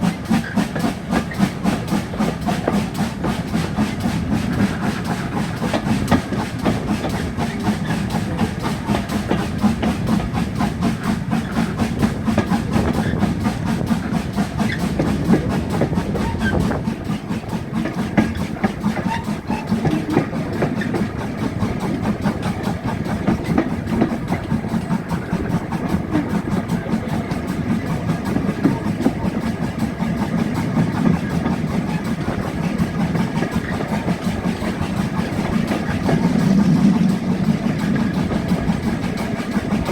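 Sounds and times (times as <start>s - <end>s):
wheels clicking on rails: 0.0s - 39.9s.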